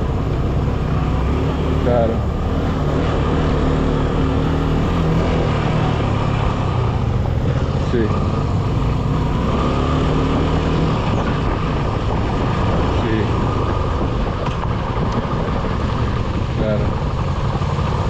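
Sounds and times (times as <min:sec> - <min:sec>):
road noise: 0:00.0 - 0:18.0
vehicle engine droning: 0:00.0 - 0:18.0.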